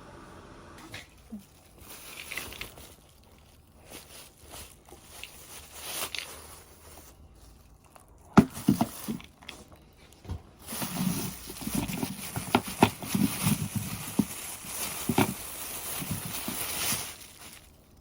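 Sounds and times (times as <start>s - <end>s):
packaging rustling and crinkling: 1.0s - 18.0s.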